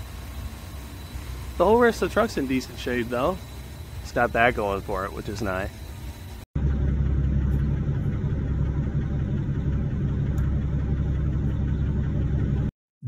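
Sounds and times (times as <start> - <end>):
vehicle engine idling: 0.0 - 12.7.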